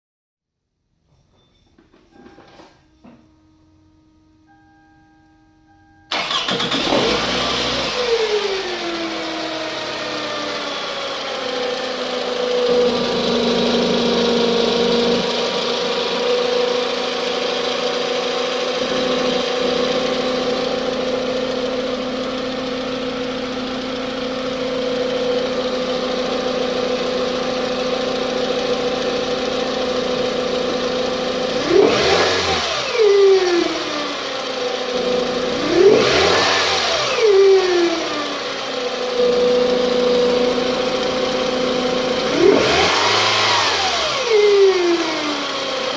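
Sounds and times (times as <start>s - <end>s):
car engine idling and revving: 6.1s - 45.9s.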